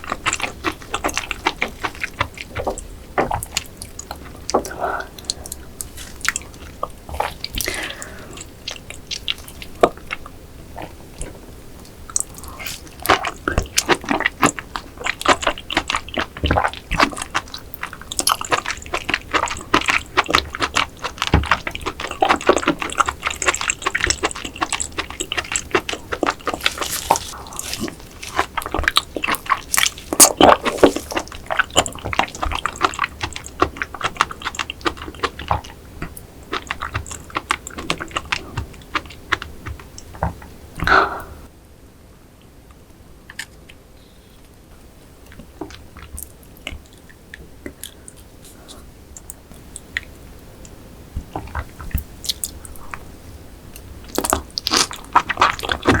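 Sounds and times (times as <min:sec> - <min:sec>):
wet chewing with mouth clicks: 0:00.0 - 0:41.5, 0:45.2 - 0:56.0.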